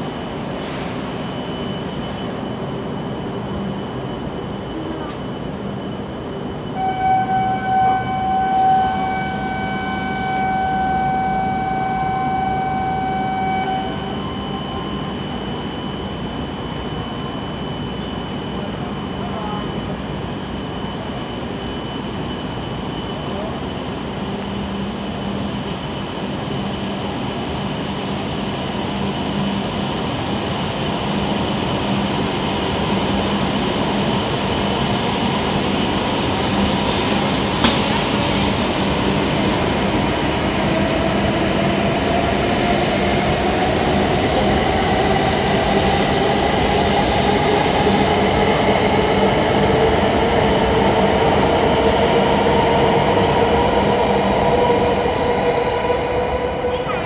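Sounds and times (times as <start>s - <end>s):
train rushing past: 0.0s - 57.0s.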